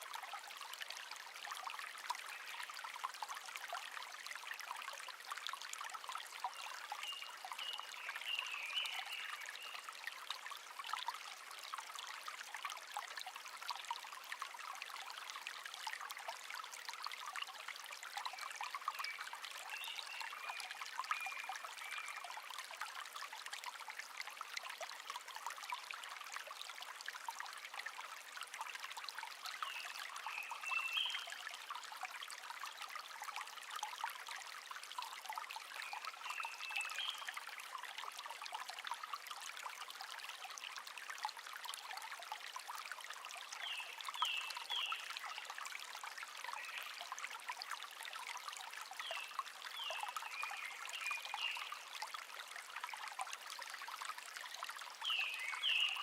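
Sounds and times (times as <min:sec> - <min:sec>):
brook trickling and babbling: 0:00.0 - 0:56.0.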